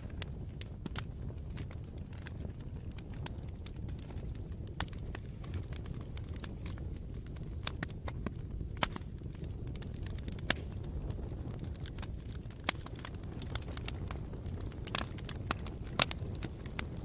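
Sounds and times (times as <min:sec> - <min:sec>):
campfire pops and snaps: 0:00.0 - 0:17.0
low fire rumble: 0:00.0 - 0:17.0.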